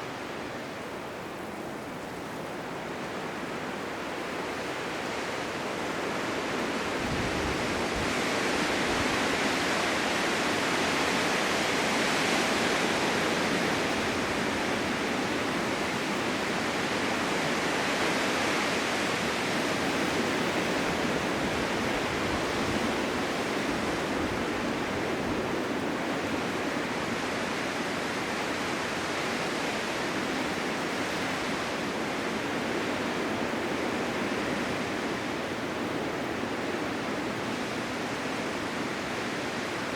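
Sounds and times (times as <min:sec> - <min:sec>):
blizzard wind rushing: 0:00.0 - 0:39.9.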